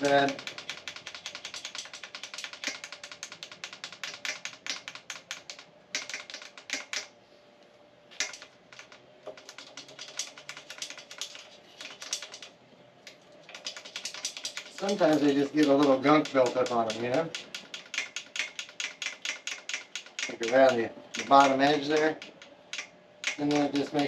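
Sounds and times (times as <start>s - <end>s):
small metal parts clicking: 0.0s - 7.1s, 8.2s - 12.5s, 13.5s - 24.0s.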